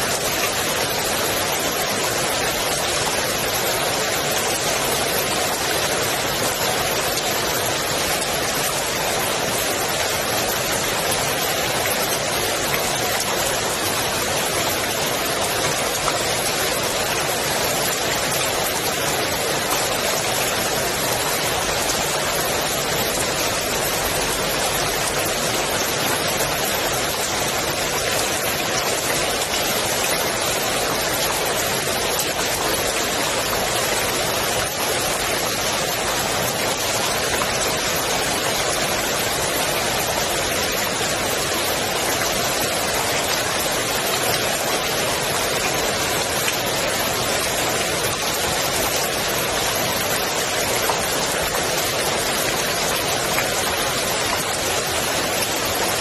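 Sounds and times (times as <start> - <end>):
rain falling on pool water: 0.0 - 56.0.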